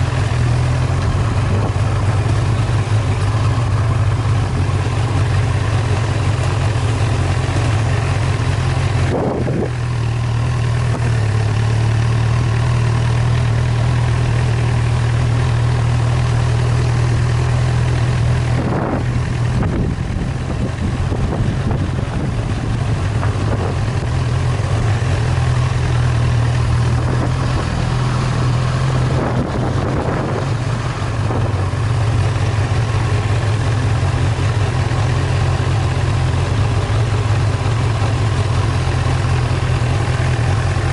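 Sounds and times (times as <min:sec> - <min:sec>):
vehicle engine drone: 0:00.0 - 0:40.9.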